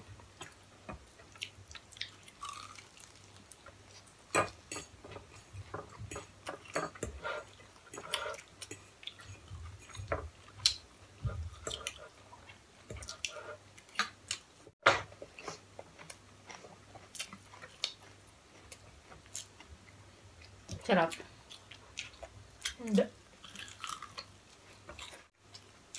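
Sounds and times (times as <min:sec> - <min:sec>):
person chewing food: 0:00.3 - 0:14.5, 0:15.2 - 0:22.8, 0:23.4 - 0:25.9.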